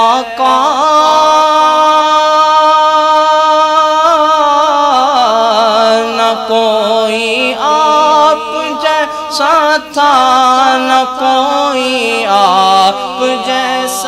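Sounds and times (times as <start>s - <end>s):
man singing in chanting style: 0.0s - 14.0s.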